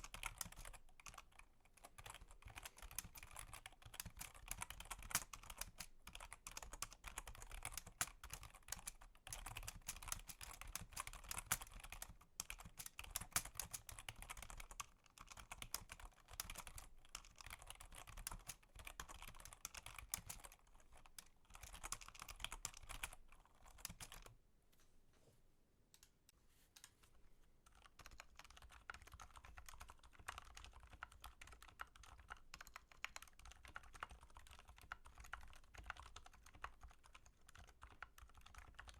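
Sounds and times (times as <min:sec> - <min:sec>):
computer keyboard typing: 0:00.0 - 0:24.4, 0:27.6 - 0:38.9.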